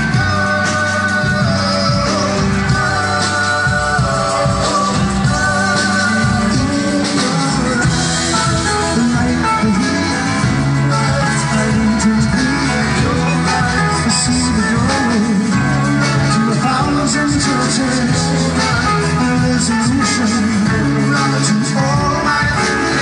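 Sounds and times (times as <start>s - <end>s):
lead vocal singing: 0.0s - 23.0s
live rock band playing: 0.0s - 23.0s.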